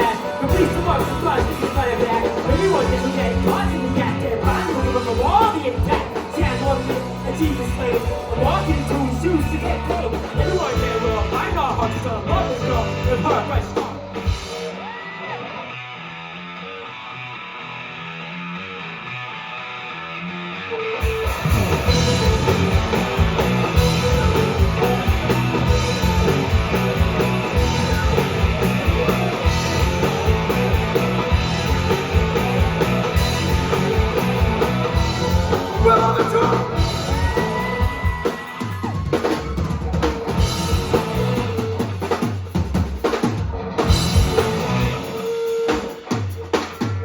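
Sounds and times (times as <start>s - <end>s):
drum kit beat: 0.0s - 14.7s, 21.0s - 47.0s
bass guitar: 0.0s - 47.0s
electric guitar: 0.0s - 47.0s.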